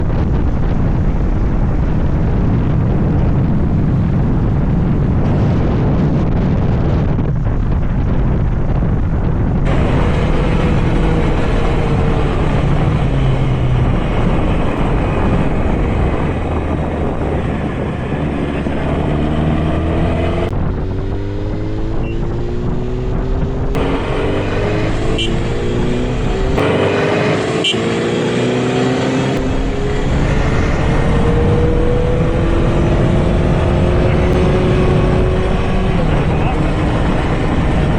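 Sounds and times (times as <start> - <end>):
motorcycle engine accelerating: 0.0 - 37.9
wind rush on microphone: 0.0 - 37.9.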